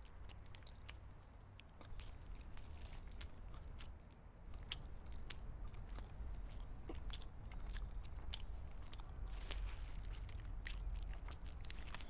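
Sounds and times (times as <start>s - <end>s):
mouth chewing food: 0.0s - 12.0s.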